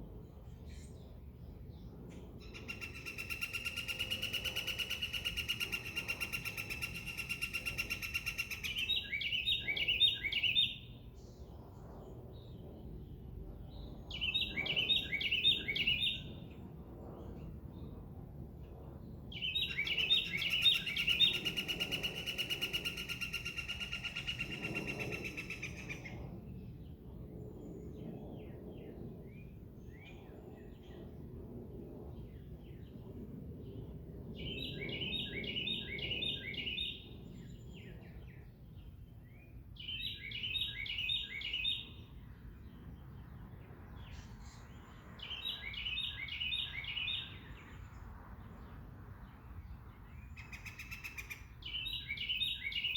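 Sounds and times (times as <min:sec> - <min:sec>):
songbird song phrases: 0:00.5 - 0:16.5, 0:19.3 - 0:31.0, 0:33.7 - 0:52.9.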